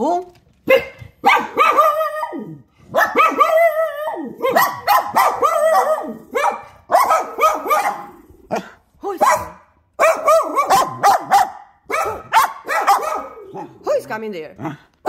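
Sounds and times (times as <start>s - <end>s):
small dog barking: 0.7s - 13.9s.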